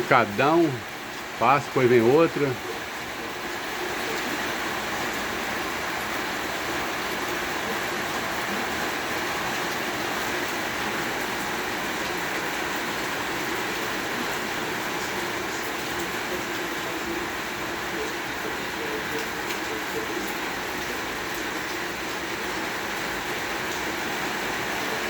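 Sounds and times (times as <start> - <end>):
heavy rain on a roof: 0.0 - 25.0.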